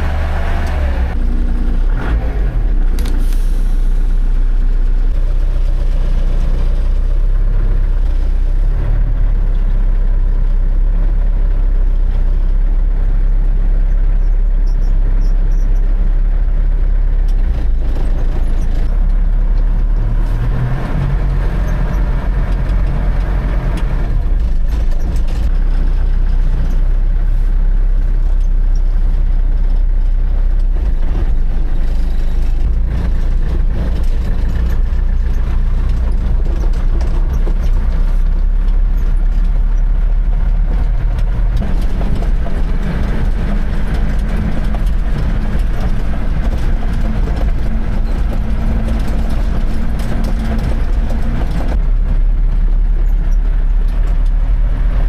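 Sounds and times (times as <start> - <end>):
truck engine droning: 0.0 - 55.0.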